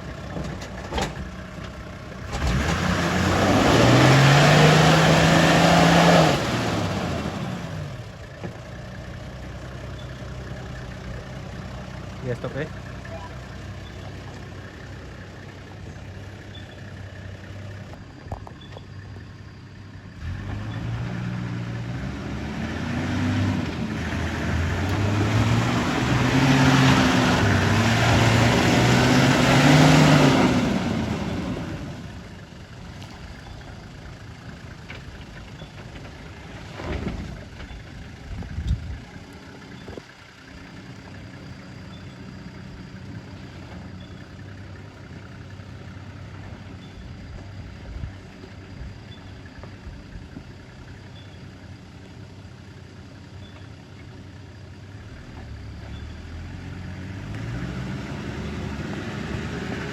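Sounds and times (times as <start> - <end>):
truck engine idling and revving: 0.0 - 59.9.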